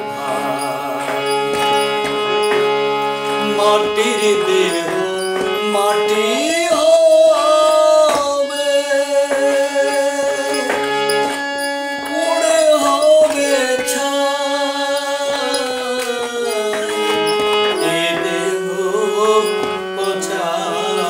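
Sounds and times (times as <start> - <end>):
harmonium: 0.0 - 21.0
man singing devotional folk song: 0.0 - 21.0.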